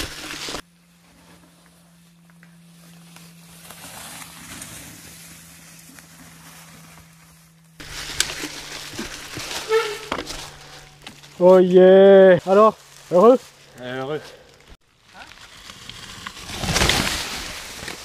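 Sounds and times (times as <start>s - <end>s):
bike tyres crackling through leaves: 0.0s - 18.0s.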